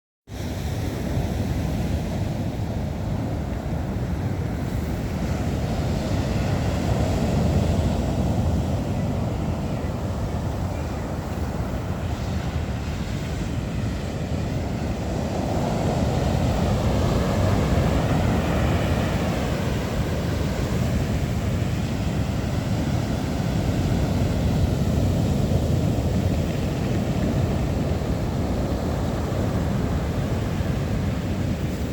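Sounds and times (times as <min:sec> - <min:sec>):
storm wind over rough sea: 0:00.3 - 0:31.9.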